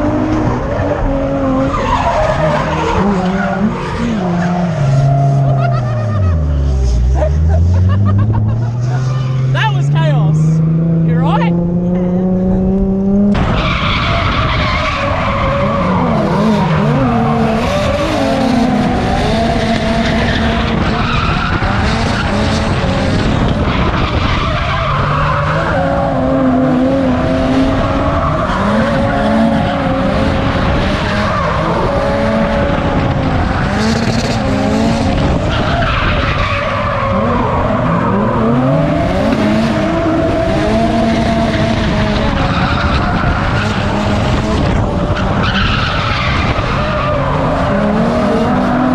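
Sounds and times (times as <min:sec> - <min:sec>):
car engines revving: 0:00.0 - 0:48.9
tyres skidding and squealing: 0:00.0 - 0:48.9.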